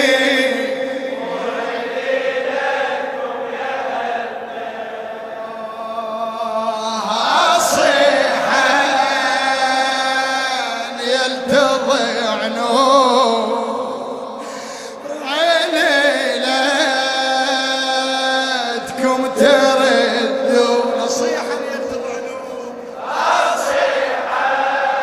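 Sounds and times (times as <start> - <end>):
voices chanting religious song: 0.0 - 25.0.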